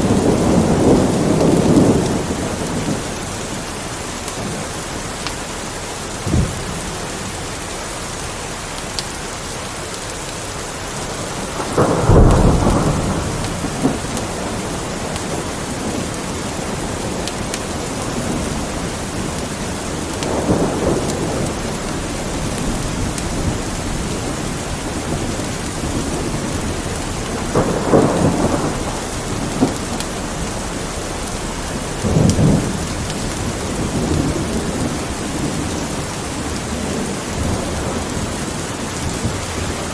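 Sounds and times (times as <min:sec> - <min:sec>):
thunder rumbling: 0:00.0 - 0:08.8, 0:10.6 - 0:39.9
steady rain: 0:00.0 - 0:39.9.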